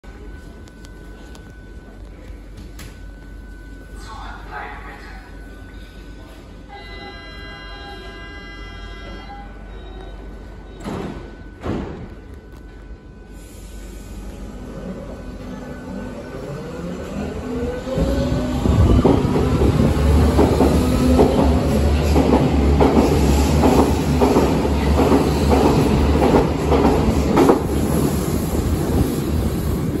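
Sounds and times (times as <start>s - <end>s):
train rumble: 0.1s - 30.0s.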